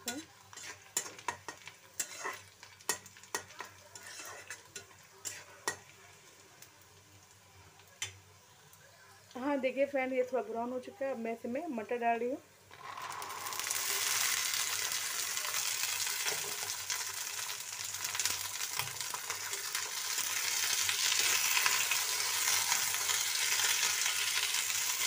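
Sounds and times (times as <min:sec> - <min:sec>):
peas sizzling in hot oil: 0:00.0 - 0:25.0.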